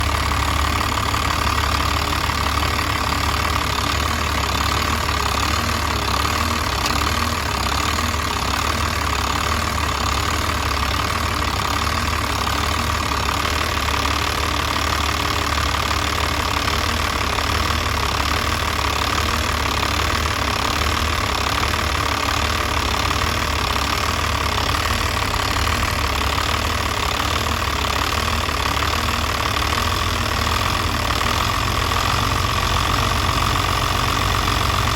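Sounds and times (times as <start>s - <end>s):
diesel engine rough idle: 0.0s - 34.9s.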